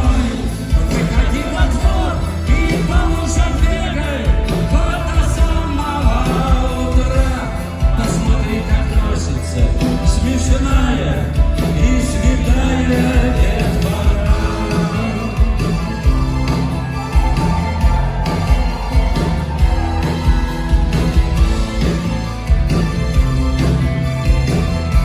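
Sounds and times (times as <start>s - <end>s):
drum beat: 0.0s - 25.0s
rock band playing live: 0.0s - 25.0s.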